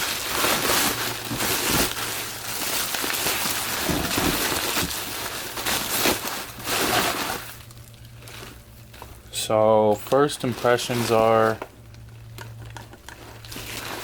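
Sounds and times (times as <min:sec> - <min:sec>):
packing material crinkling: 0:00.0 - 0:14.0.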